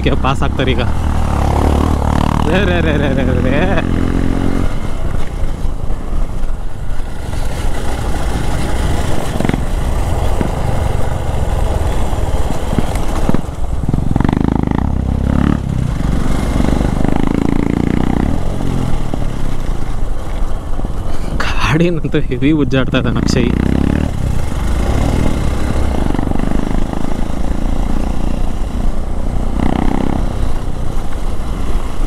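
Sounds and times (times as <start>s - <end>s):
motorcycle engine running: 0.0s - 21.0s, 22.8s - 32.0s.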